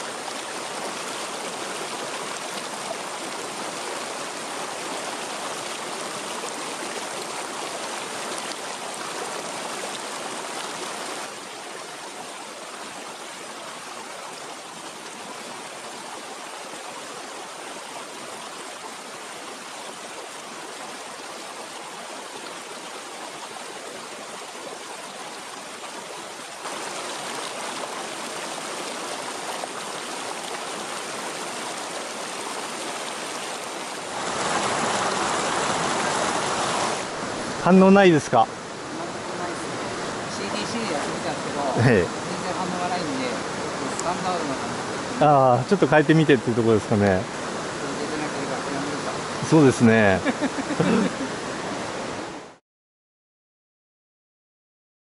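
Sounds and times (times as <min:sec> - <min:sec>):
stream flowing over rocks: 0:00.0 - 0:52.6.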